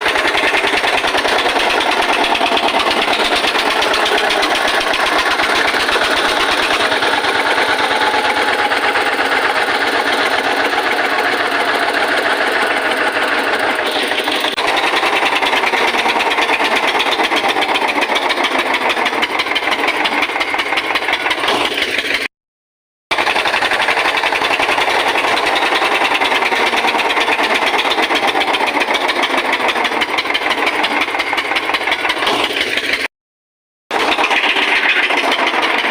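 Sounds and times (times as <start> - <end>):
tractor diesel engine knocking: 0.0 - 22.3, 23.1 - 33.1, 33.9 - 35.9.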